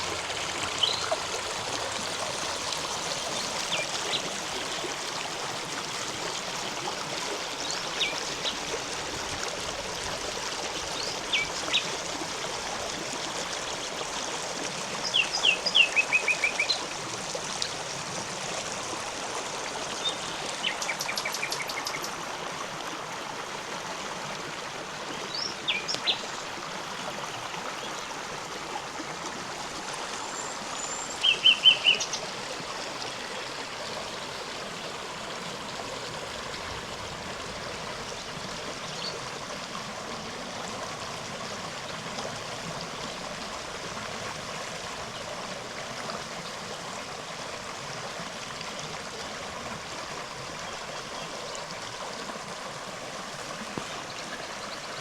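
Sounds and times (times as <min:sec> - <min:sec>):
river running over rocks: 0:00.0 - 0:55.0.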